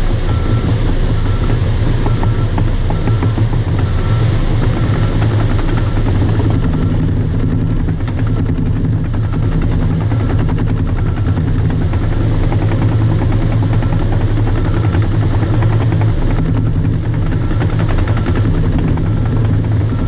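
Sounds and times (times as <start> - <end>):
bulldozer diesel engine running: 0.0 - 20.0.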